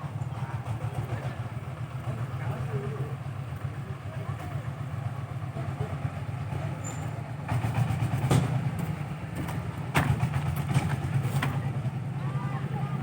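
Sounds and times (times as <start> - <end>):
engine running with low hum: 0.0 - 13.0.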